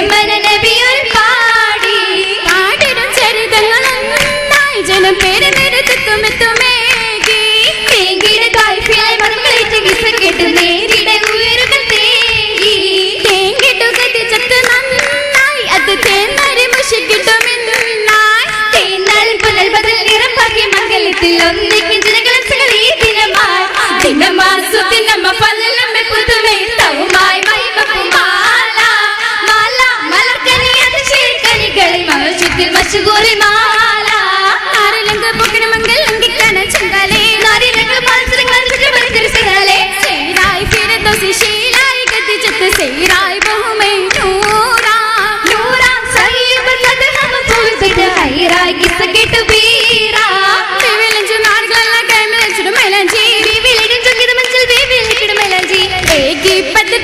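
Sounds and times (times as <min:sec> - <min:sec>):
rhythmic hand clapping: 0:00.0 - 0:57.0
women singing in chorus: 0:00.0 - 0:57.0.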